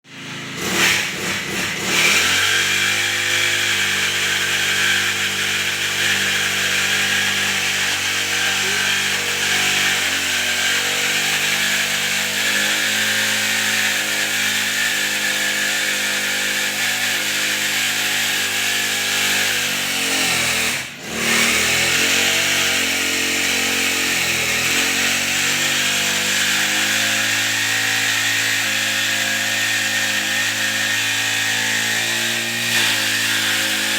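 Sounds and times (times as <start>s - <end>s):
chainsaw sawing wood: 0.0s - 33.9s.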